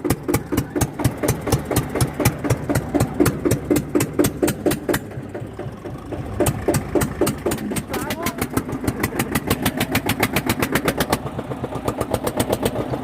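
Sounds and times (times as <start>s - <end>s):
tractor diesel engine knocking: 0.0s - 13.0s.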